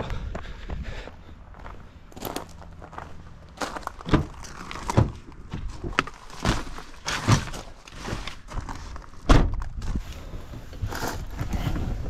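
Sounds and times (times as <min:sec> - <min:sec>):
person climbing into car: 0:02.2 - 0:12.0.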